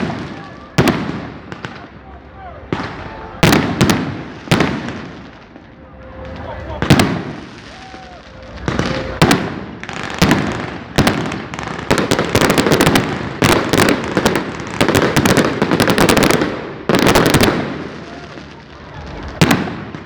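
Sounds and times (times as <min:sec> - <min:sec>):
firecracker bangs: 0:00.0 - 0:18.5, 0:19.4 - 0:20.0
rapid crackle of firecrackers: 0:00.0 - 0:20.0.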